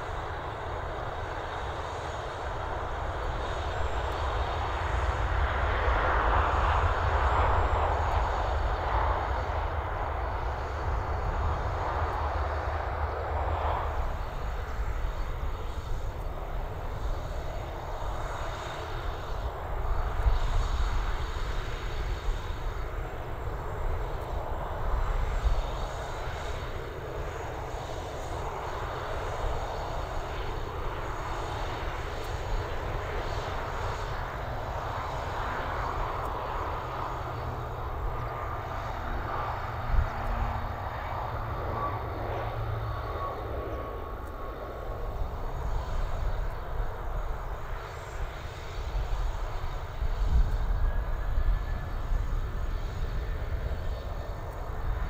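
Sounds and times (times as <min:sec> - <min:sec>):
faint whine: 0:00.0 - 0:55.0
turboprop engines at takeoff power: 0:00.0 - 0:55.0.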